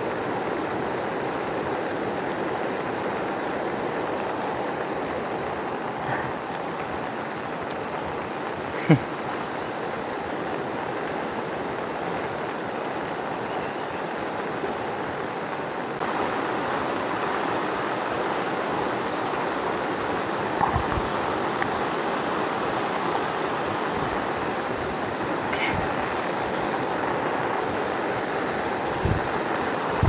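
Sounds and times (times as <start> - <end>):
falling rain: 0.0 - 30.0
river rushing over rapids: 0.0 - 30.0.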